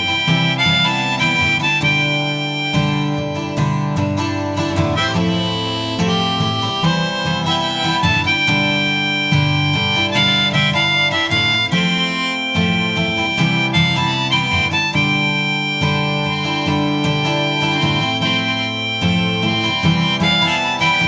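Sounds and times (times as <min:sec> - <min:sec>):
melody of held notes: 0:00.0 - 0:21.0
plucked-string accompaniment: 0:00.0 - 0:21.0.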